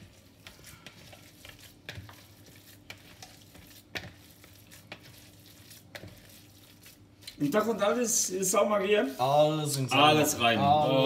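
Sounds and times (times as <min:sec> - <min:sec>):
faint wet crackle of mixing: 0:00.0 - 0:10.4.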